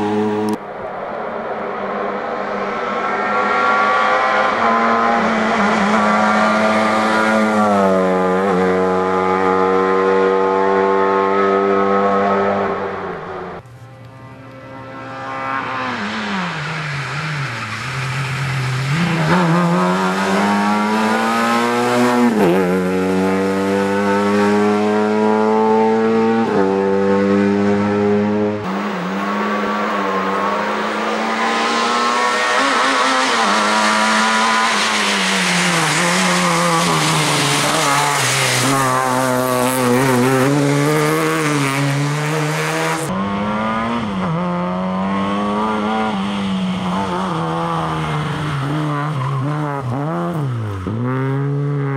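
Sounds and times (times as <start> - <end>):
rally car engine revving: 0.0 - 0.6, 2.2 - 13.6, 14.5 - 51.9.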